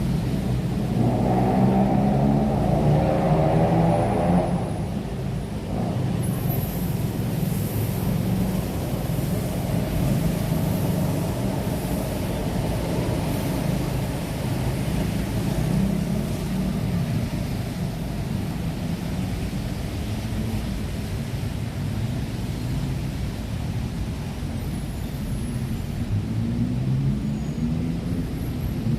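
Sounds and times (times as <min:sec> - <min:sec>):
city road traffic rumble: 0:00.0 - 0:28.9.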